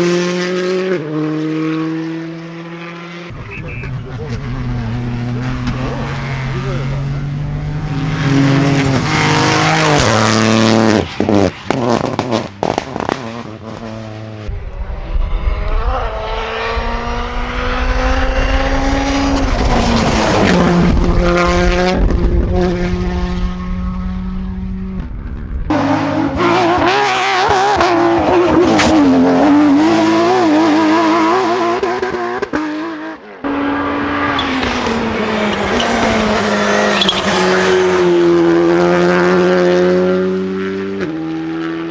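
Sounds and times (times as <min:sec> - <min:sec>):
rally car engines at full throttle: 0:00.0 - 0:41.9.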